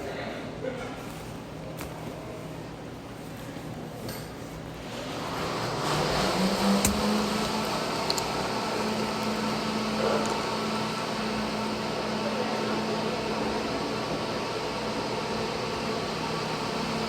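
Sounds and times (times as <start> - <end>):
mechanical hum and air noise: 0.0 - 17.0.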